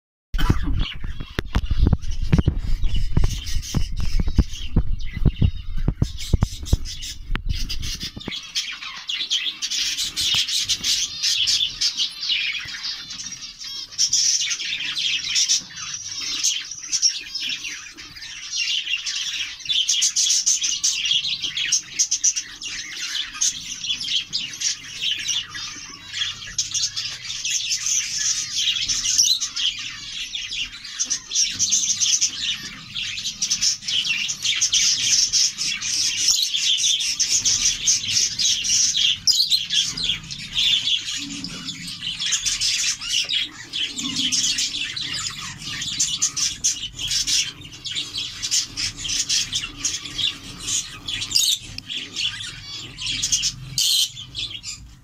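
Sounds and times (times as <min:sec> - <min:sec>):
budgerigars chirping: 0:00.4 - 0:55.0.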